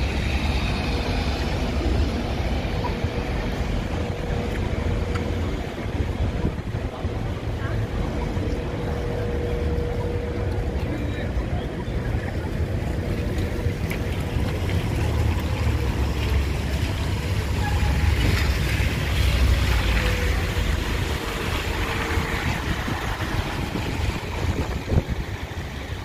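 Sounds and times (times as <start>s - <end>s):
heavy rain: 0.0s - 26.0s
wind gusting across microphone: 0.0s - 26.0s.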